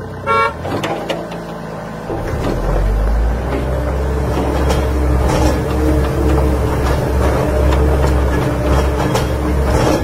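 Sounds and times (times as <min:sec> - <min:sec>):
heavy engine droning: 0:00.0 - 0:10.0.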